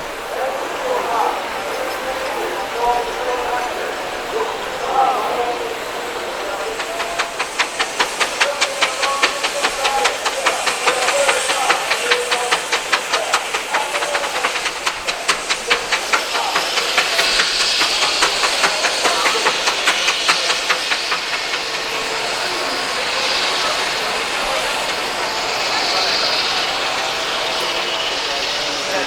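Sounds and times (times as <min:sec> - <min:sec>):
steam engine chuffing: 0:00.0 - 0:29.0
steam hissing: 0:00.0 - 0:29.0.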